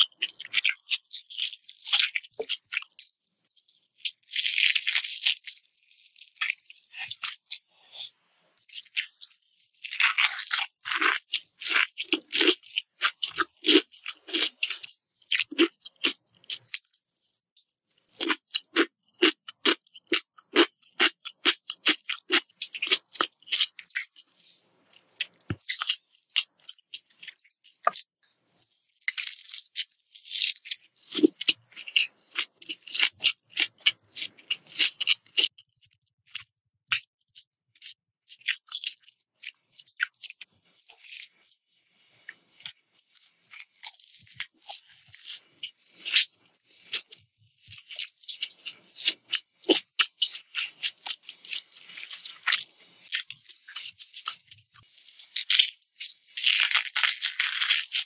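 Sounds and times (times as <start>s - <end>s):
crunchy wet chewing: 0.0s - 58.0s.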